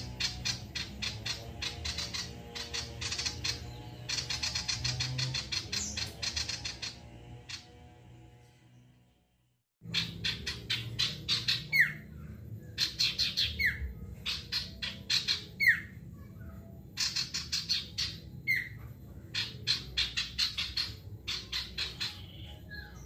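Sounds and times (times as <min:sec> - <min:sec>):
songbird singing: 0:00.0 - 0:09.0, 0:09.8 - 0:23.0.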